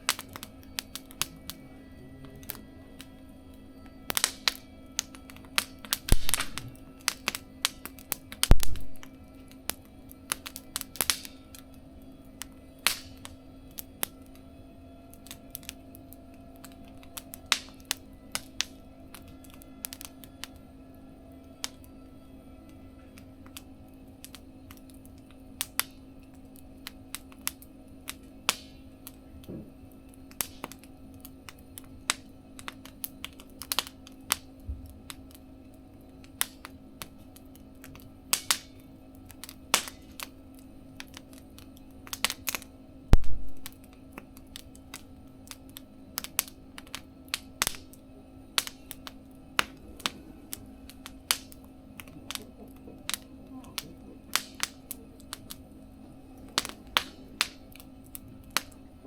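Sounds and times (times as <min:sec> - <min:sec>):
faint steady hum: 0:00.0 - 0:59.0
wood fire crackling: 0:00.0 - 0:59.0.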